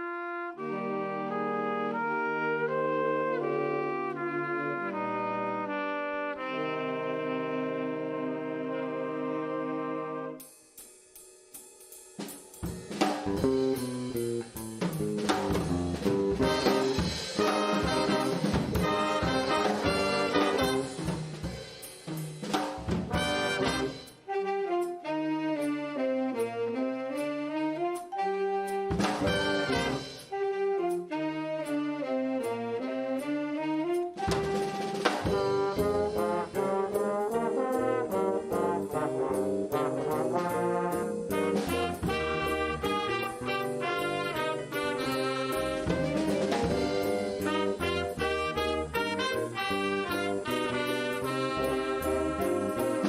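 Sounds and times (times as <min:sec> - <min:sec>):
brass and saxophones playing jazz: 0:00.0 - 0:10.5, 0:13.1 - 0:53.0
drum kit: 0:10.3 - 0:53.0.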